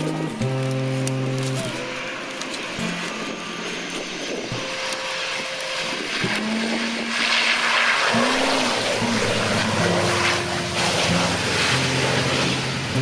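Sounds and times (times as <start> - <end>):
turboprop airliner propeller drone: 0.0 - 13.0.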